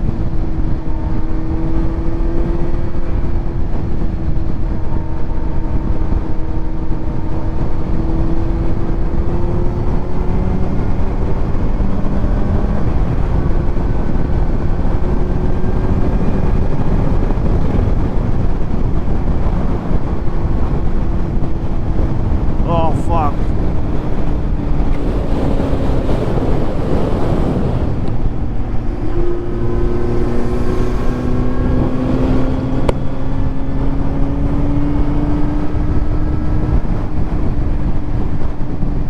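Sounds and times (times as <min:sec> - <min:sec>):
motorcycle engine cruising: 0:00.0 - 0:39.0
wind and road rush: 0:00.0 - 0:39.0.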